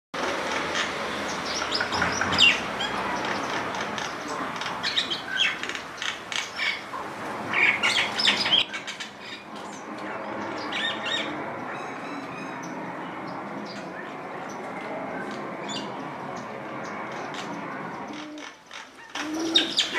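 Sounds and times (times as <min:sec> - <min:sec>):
birds chirping and calling: 0:00.4 - 0:19.9.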